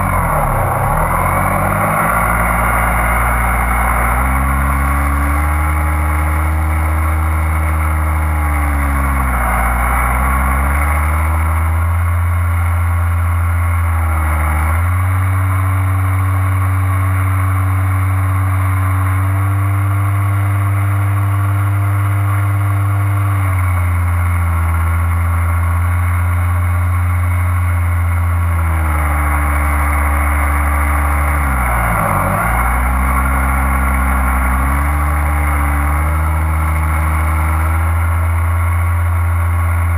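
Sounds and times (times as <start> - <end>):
small aircraft motor and propeller: 0.0 - 39.9.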